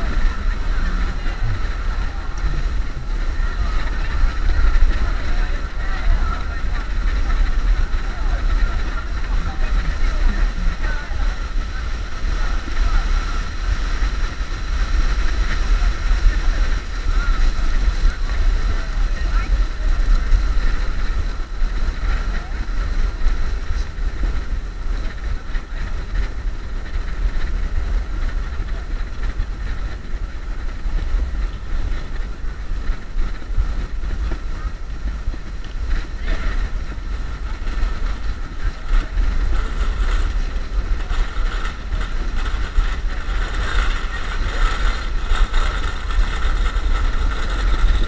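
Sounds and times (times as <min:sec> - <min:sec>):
low road rumble: 0:00.0 - 0:48.0
wind buffeting microphone: 0:00.0 - 0:48.0.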